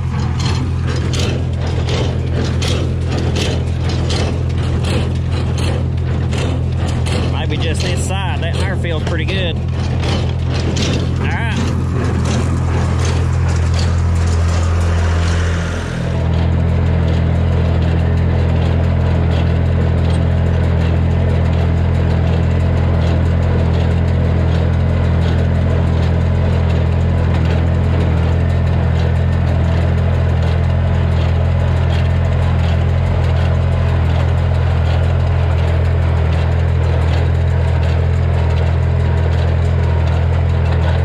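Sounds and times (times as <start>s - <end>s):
tractor engine under load: 0.0s - 41.0s.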